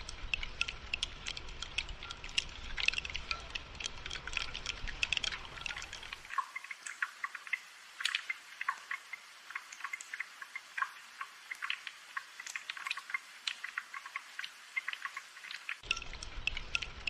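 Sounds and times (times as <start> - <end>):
rain dripping: 0.0 - 17.0.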